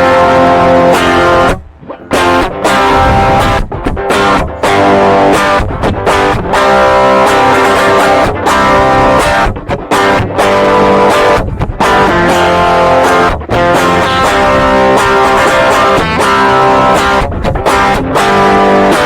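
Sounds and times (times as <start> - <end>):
overdriven electric guitar chords: 0.0 - 19.0.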